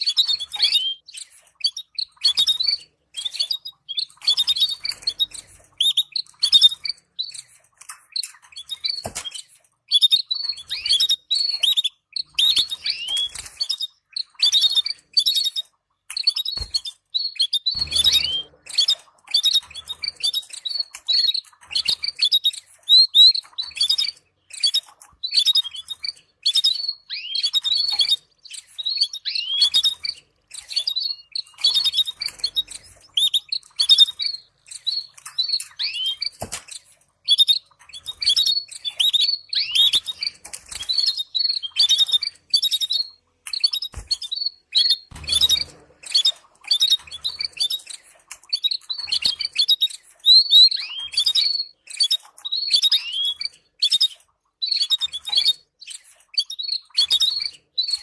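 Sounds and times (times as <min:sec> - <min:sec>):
canaries chirping: 0:00.0 - 0:58.0.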